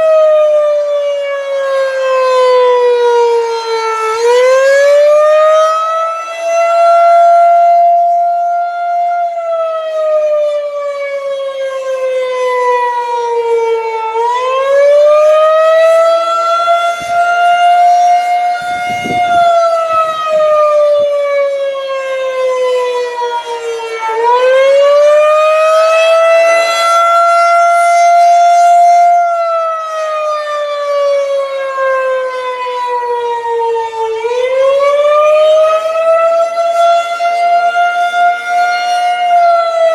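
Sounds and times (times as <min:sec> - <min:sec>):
rising and falling warning siren: 0:00.0 - 0:39.9.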